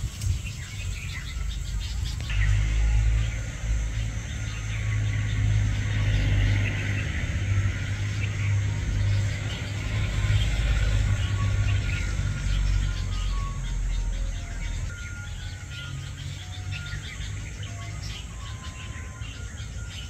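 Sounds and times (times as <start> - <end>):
faint high bird chirps: 0.0 - 20.0
steady low rumble: 0.0 - 20.0.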